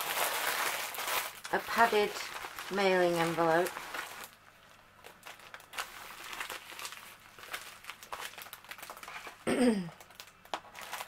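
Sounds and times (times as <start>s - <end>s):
plastic envelope and bags crinkling: 0.0s - 11.0s.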